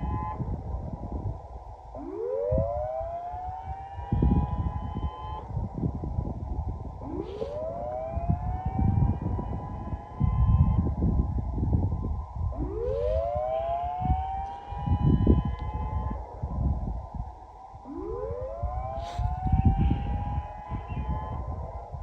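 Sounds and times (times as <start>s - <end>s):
electronic siren whooping: 0.0s - 22.0s
gusty wind rumble: 0.0s - 22.0s.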